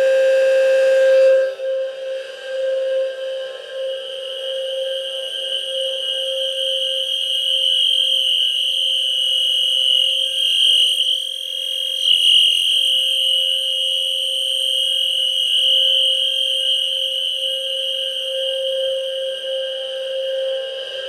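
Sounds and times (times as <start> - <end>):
high piercing alarm horn: 0.0 - 20.0.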